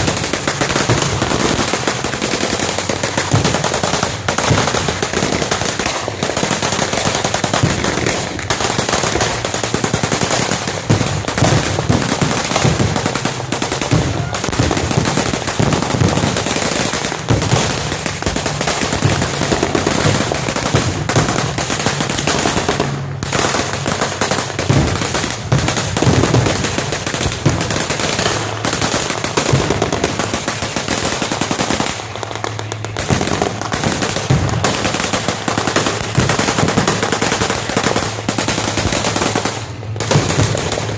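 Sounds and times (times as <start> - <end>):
machine guns firing rapid bursts: 0.0 - 40.9.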